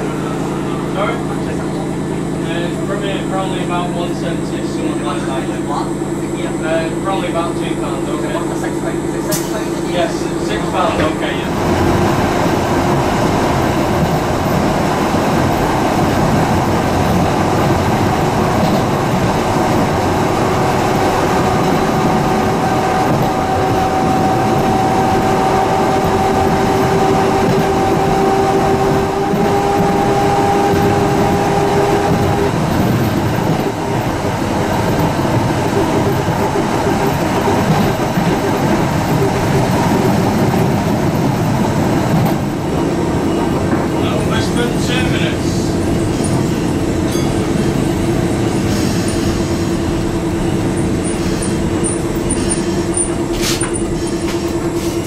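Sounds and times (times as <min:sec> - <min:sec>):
tram motor whine: 0:00.0 - 0:55.0
tram wheel and rail noise: 0:00.0 - 0:55.0.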